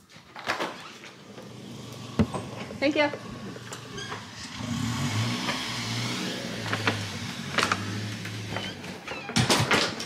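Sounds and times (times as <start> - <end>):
car engine pulling away: 1.1 - 9.3.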